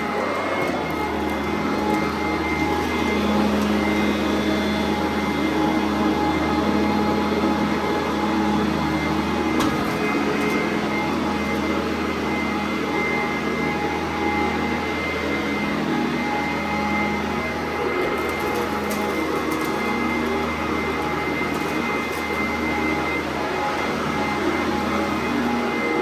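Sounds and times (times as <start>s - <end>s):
upright vacuum cleaner running: 0.0s - 26.0s.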